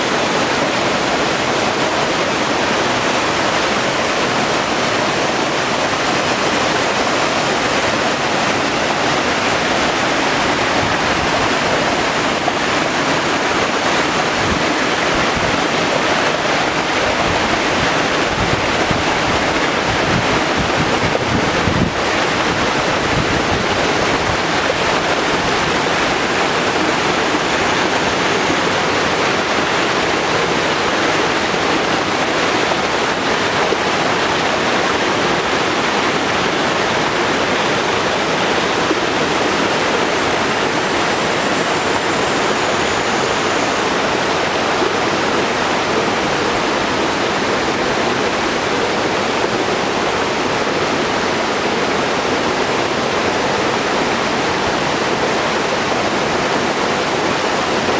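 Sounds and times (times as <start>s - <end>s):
water rushing over waterfall: 0.0s - 57.9s.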